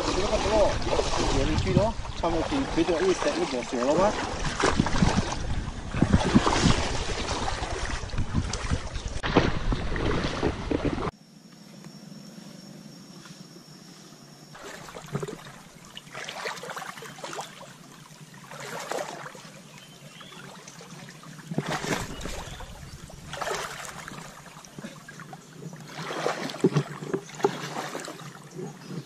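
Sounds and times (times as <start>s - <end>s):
footsteps wading through stream: 0.0s - 11.1s, 14.6s - 29.0s.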